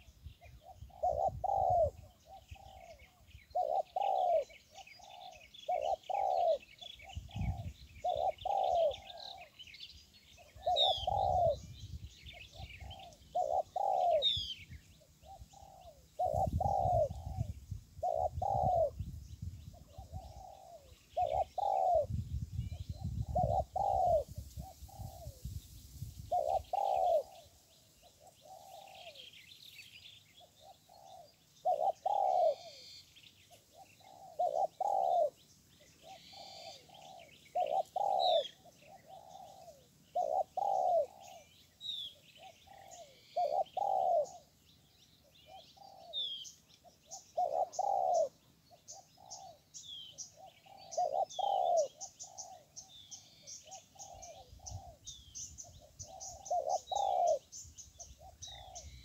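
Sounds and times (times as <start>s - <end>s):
dove cooing: 0.0s - 9.6s, 10.4s - 19.1s, 19.7s - 25.5s, 26.3s - 29.4s, 30.4s - 44.6s, 45.2s - 59.0s
small birds chirping: 0.0s - 59.0s.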